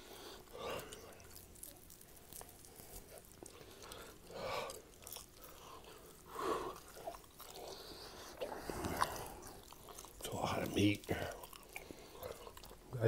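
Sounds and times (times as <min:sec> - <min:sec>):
person chewing meat: 0:00.0 - 0:13.0.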